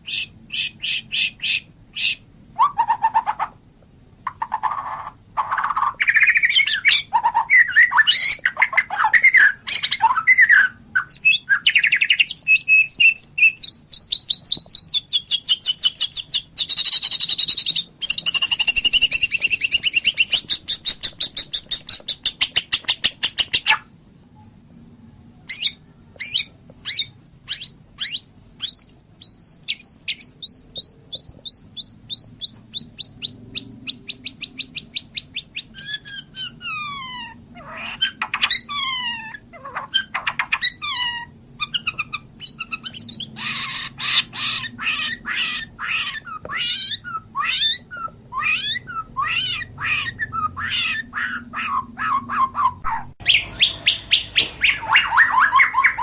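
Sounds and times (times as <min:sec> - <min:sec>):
bird singing whistles and trills: 0:00.0 - 0:03.5, 0:04.3 - 0:24.5, 0:25.5 - 0:56.0.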